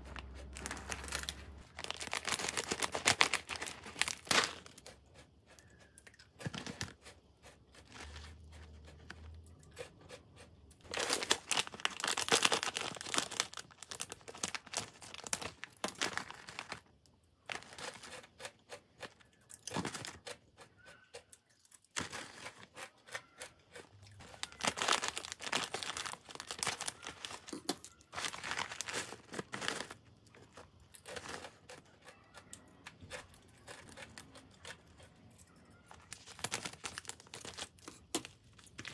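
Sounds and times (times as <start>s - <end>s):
plastic snack bags crinkling: 0.0s - 5.2s, 7.8s - 20.4s, 21.6s - 31.9s, 33.0s - 38.9s.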